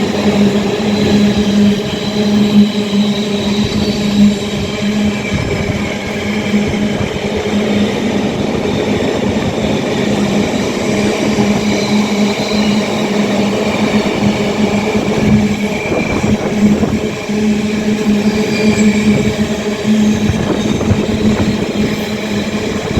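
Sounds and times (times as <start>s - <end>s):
freight train wagons rumbling: 0.0s - 22.9s.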